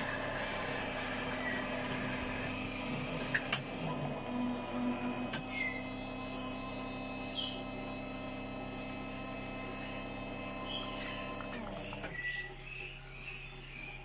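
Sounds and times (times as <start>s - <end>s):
coffee machine pump hum: 0.0s - 14.0s.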